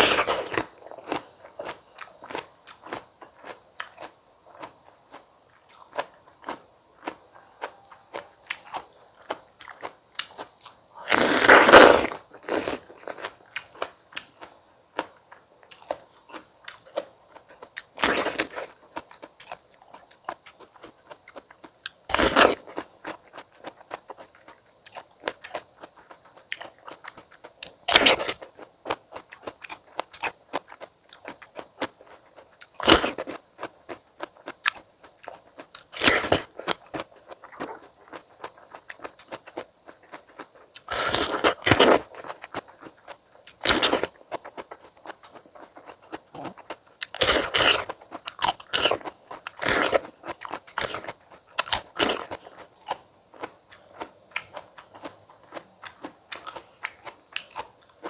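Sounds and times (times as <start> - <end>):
loud crunchy bites: 0.0 - 15.1, 17.9 - 21.4, 22.1 - 24.3, 26.5 - 31.9, 32.6 - 42.9, 43.5 - 58.0
chewing crisp fruit: 0.0 - 58.0.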